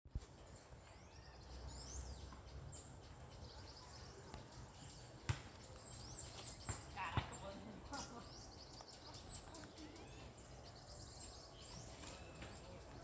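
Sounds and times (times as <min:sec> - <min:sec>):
faint birds chirping: 0:00.1 - 0:13.0.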